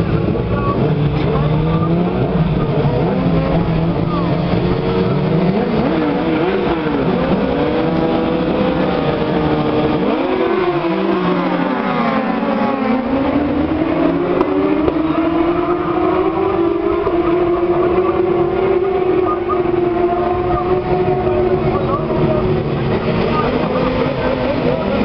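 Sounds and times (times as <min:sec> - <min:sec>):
motorcycle engines revving: 0:00.0 - 0:25.0
steady engine note rising: 0:00.4 - 0:25.0.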